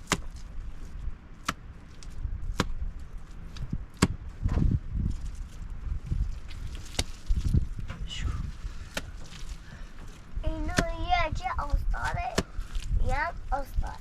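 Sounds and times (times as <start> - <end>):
dull low thuds: 0.0 - 14.0.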